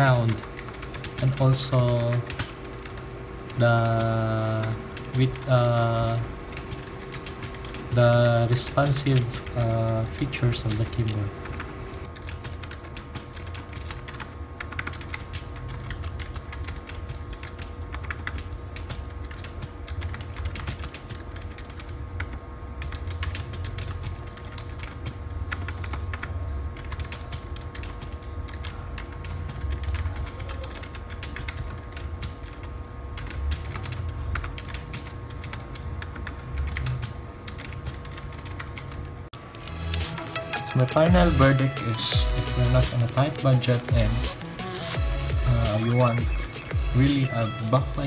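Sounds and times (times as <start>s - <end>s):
fast keyboard typing: 0.0s - 39.1s, 39.9s - 48.0s.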